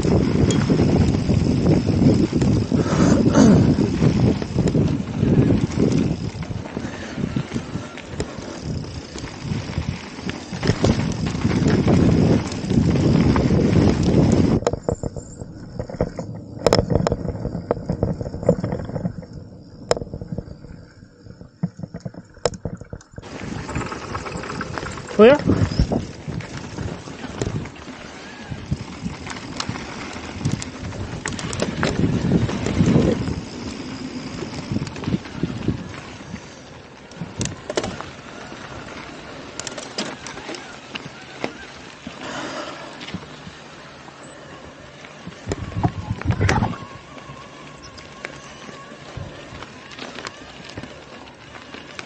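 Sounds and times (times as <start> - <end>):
wind on microphone: 0.0 - 39.0, 45.2 - 51.1
bike rattling on dirt trail: 0.0 - 52.0.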